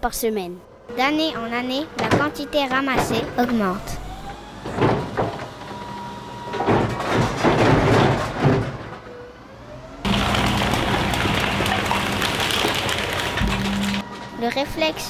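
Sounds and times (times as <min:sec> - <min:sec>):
hydraulic whine: 0:00.7 - 0:15.0
bins and rubbish clattering: 0:01.0 - 0:09.2, 0:10.1 - 0:15.0.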